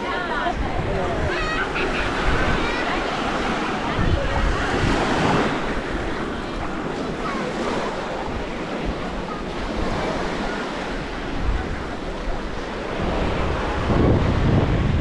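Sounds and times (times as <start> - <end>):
faint voices of people: 0.0 - 15.0
small waves breaking on sand: 0.0 - 15.0
wind buffeting microphone: 0.0 - 15.0.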